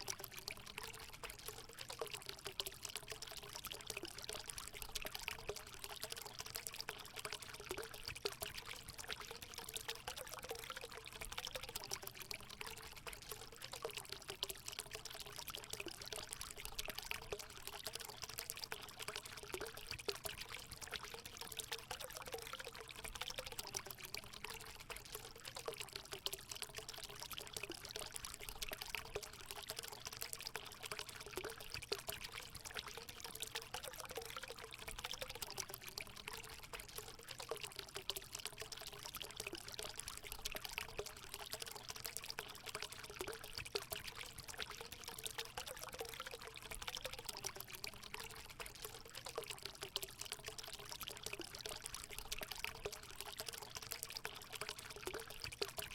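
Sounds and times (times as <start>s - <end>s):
water pouring into pool: 0.0s - 55.9s.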